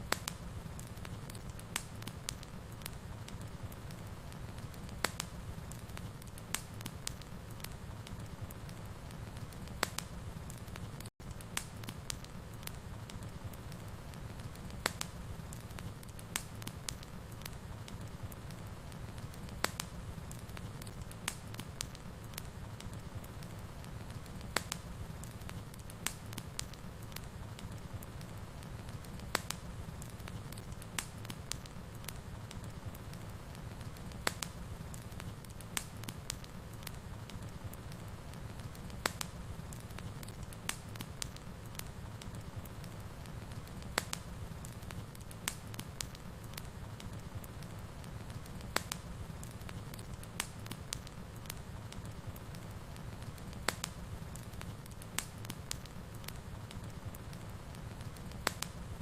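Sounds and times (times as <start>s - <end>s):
fire crackles and pops: 0.0s - 59.0s
wood fire rumbling: 0.0s - 59.0s.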